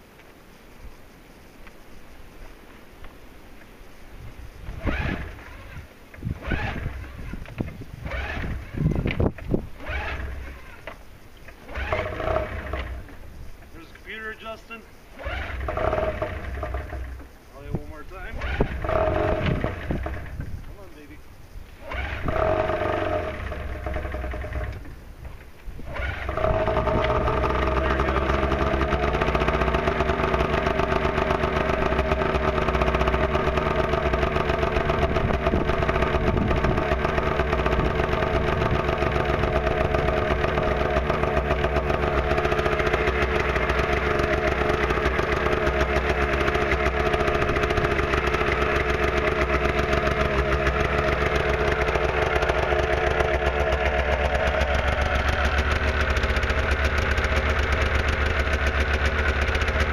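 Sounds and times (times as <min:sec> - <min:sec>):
snowmobile engine idling: 0:04.6 - 0:59.9.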